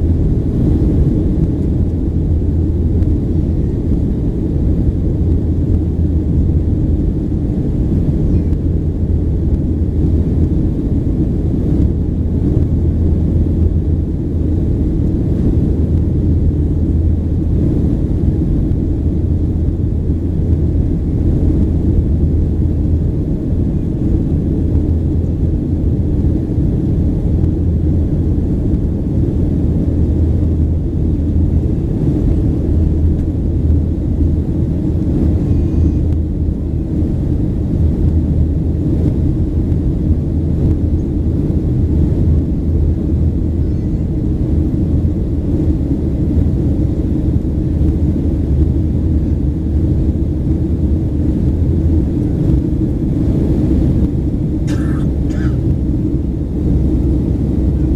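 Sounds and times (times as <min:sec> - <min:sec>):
jet engine rumble in cabin: 0:00.0 - 0:57.9.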